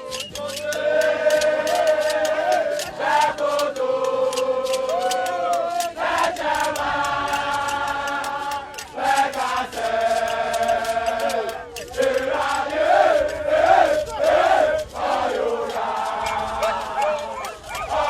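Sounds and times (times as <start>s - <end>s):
voices chanting in unison: 0.0s - 18.0s.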